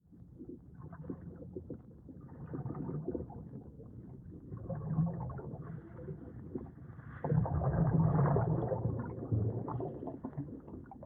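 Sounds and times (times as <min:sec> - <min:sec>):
muffled underwater rumble: 0:00.0 - 0:11.0
bubbling and gurgling: 0:00.1 - 0:11.0.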